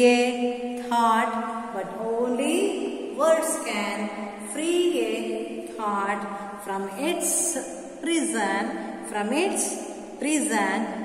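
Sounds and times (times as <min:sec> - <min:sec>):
woman chanting a poem: 0:00.0 - 0:11.0.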